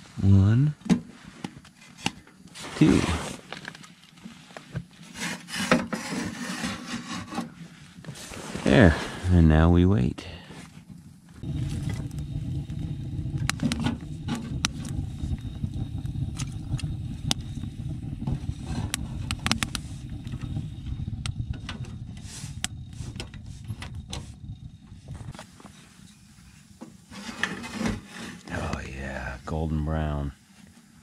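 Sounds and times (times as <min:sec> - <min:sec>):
stove draft roaring: 0:00.0 - 0:31.0
burning wood crackling and popping: 0:01.4 - 0:31.0.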